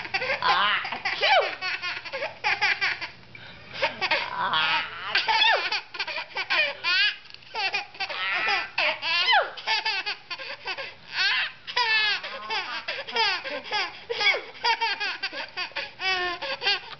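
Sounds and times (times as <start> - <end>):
baby laughing: 0.0 - 3.2, 3.8 - 16.9.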